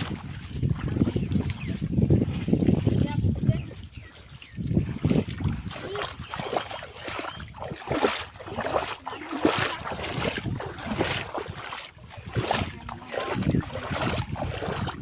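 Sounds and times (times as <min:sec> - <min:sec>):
rhythmic splashing of water: 0:00.0 - 0:15.0.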